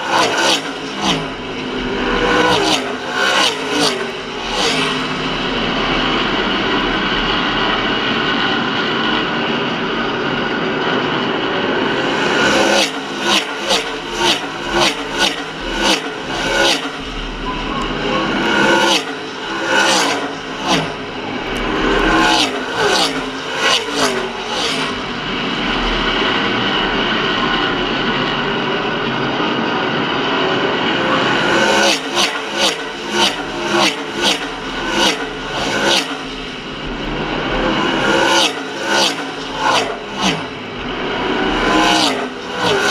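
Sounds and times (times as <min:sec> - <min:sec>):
race car engines droning: 0:00.0 - 0:42.9
race cars passing close: 0:00.0 - 0:42.9.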